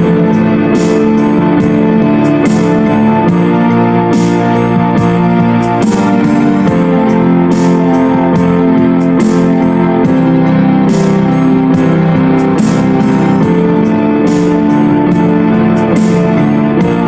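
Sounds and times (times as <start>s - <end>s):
steady beat: 0.0s - 17.0s
sustained keyboard chords: 0.0s - 17.0s.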